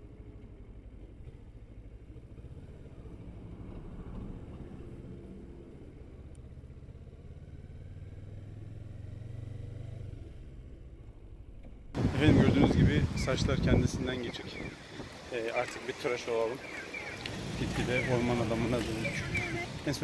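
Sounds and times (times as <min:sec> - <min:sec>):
motorcycle engine rumbling: 0:00.1 - 0:20.0.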